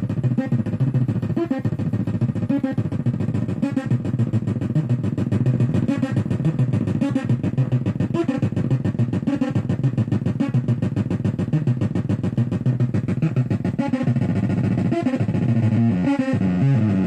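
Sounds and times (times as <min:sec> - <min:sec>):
buzzy fuzz synthesizer notes: 0:00.0 - 0:17.0.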